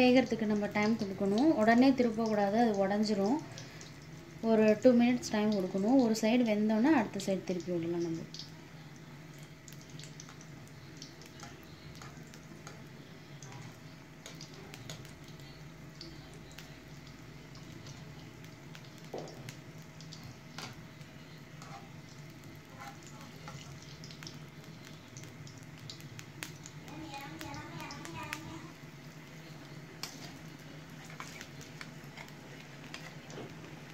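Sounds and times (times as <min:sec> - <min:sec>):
deep-frying sizzle with crackles: 0:00.0 - 0:33.9.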